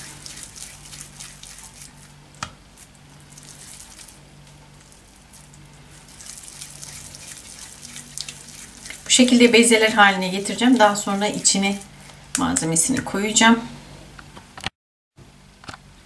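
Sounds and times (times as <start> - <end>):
dough squishing and rubbing: 0.0 - 13.4
steady low hum: 0.0 - 14.6.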